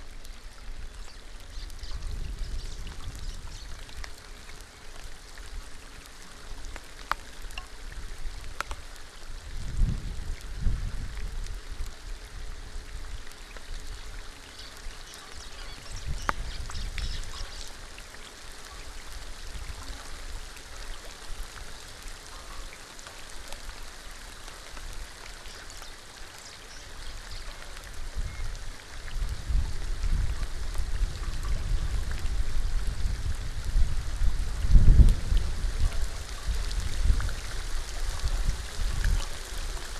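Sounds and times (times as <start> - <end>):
rain falling on water: 0.0 - 39.9.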